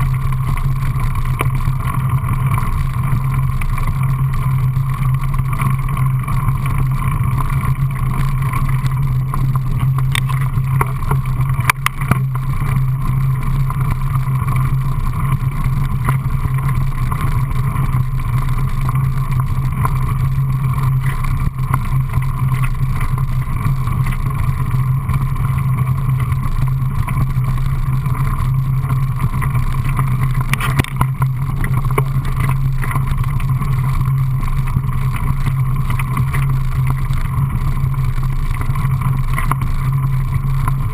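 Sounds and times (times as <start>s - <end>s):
bike tyres rumbling on gravel: 0.0s - 40.9s.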